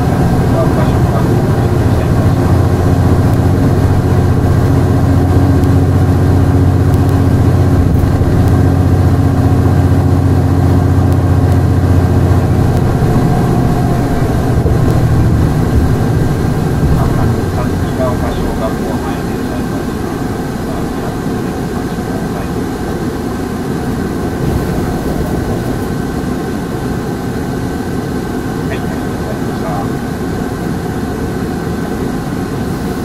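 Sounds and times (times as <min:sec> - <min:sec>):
bus diesel engine droning: 0:00.0 - 0:33.0.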